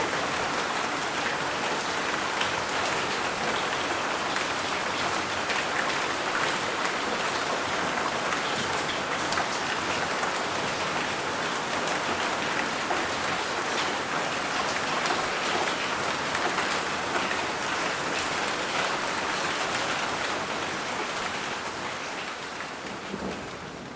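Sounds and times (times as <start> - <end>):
rain pattering: 0.0 - 23.9.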